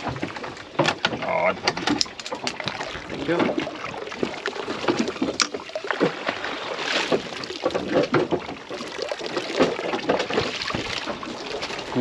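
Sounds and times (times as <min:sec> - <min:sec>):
short irregular knocks: 0:00.0 - 0:12.0
water splashing against boat: 0:00.0 - 0:12.0.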